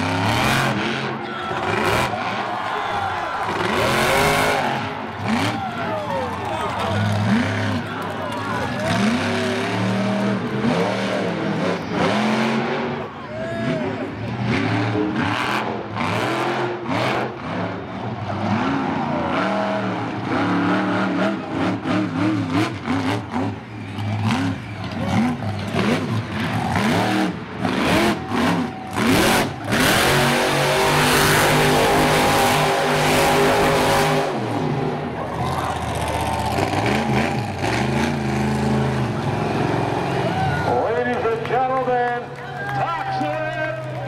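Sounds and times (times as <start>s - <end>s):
monster truck engine revving: 0.0s - 42.4s.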